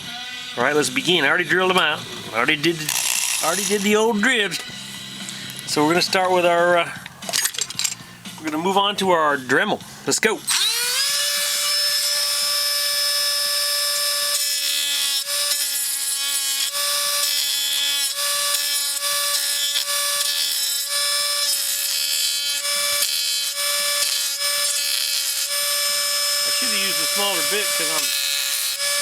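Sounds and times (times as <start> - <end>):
rotary tool whining: 0.0 - 5.8, 10.5 - 29.0
bit grinding on metal: 0.0 - 6.6, 10.5 - 29.0.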